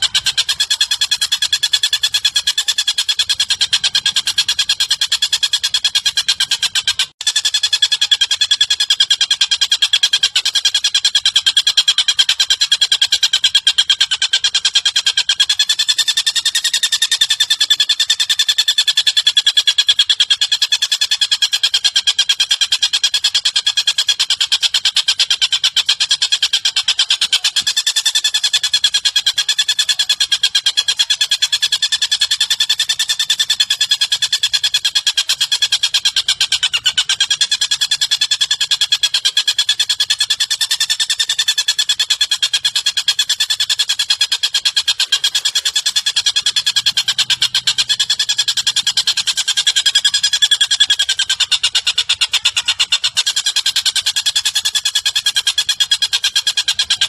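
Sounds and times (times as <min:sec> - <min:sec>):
songbird trilling: 0:00.0 - 0:57.0.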